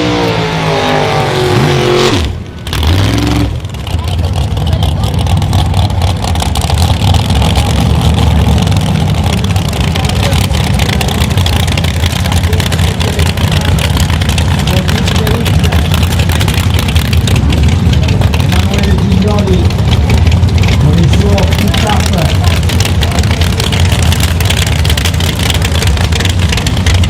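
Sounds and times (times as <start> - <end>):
loud car engine running: 0.0 - 27.0.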